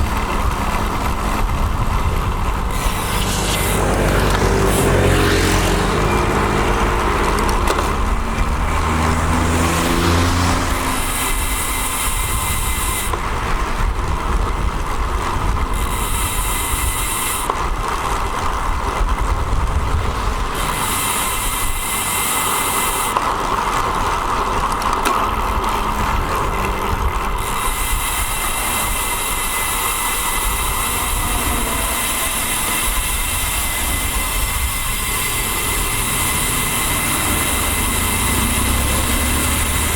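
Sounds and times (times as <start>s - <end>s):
motor vehicle engine: 0.0s - 39.9s
wind and road noise: 0.0s - 39.9s.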